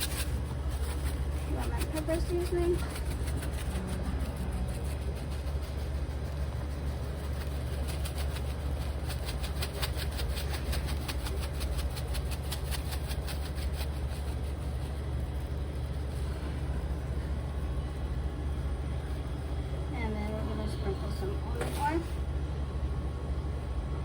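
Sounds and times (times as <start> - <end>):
seasoning shaker rattling: 0.0 - 19.9
steady low hum: 0.0 - 24.0.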